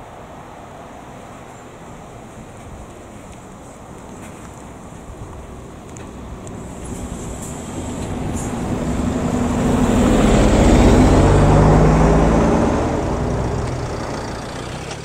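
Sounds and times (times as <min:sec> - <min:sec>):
bus passing close by: 0:00.0 - 0:15.0.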